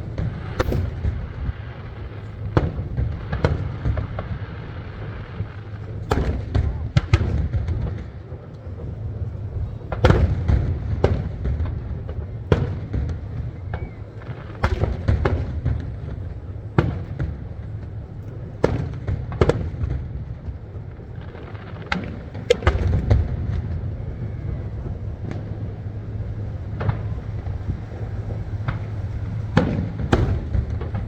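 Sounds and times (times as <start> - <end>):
firework shells bursting: 0.0 - 8.2, 12.6 - 31.0
low rumble: 0.0 - 14.6, 20.2 - 31.0.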